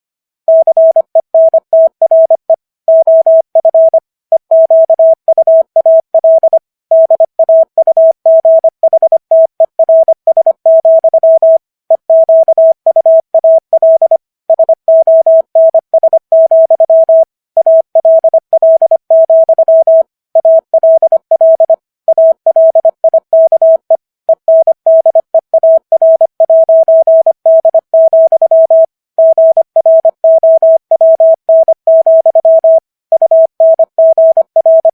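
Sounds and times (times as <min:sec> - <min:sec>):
morse code tone: 0:00.5 - 0:34.9.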